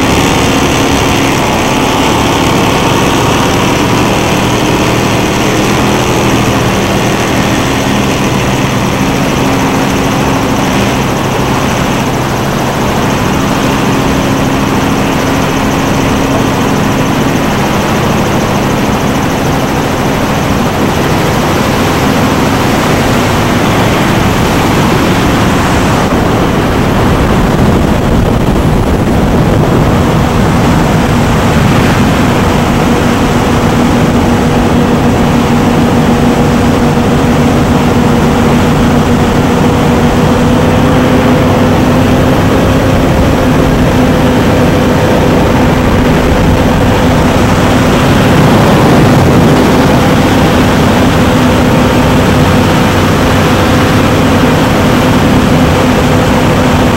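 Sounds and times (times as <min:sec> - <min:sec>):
rushing noise: 0:00.0 - 0:56.9
steady engine drone: 0:00.0 - 0:56.9.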